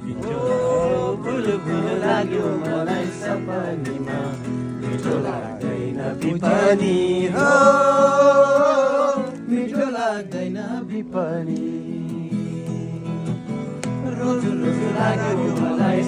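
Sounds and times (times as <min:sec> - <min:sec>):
men singing together: 0:00.0 - 0:16.0
strummed acoustic guitar: 0:00.0 - 0:16.0.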